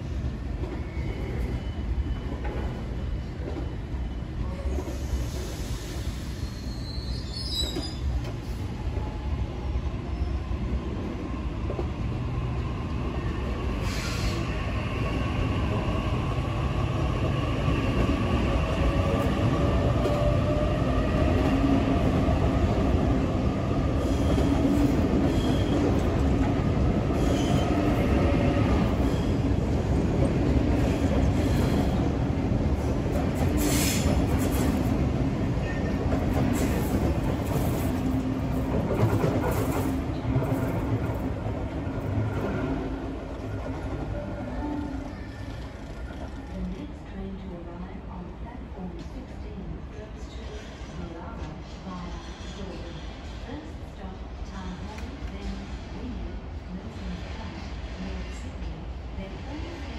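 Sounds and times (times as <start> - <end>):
train rumble: 10.9 - 59.9.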